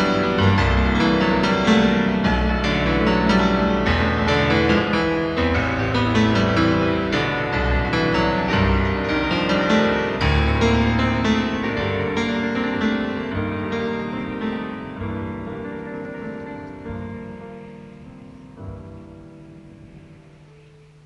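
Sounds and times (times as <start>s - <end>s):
solo piano music: 0.0s - 21.0s.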